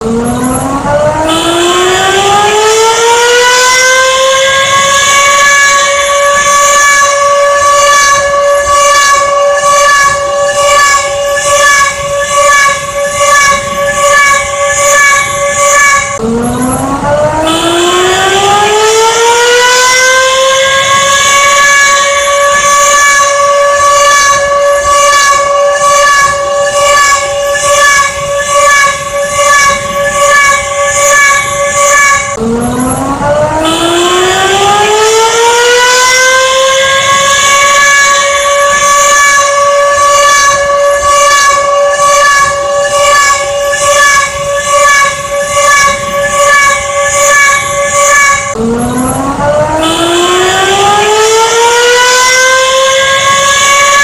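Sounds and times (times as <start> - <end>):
emergency siren wailing: 0.0 - 54.0.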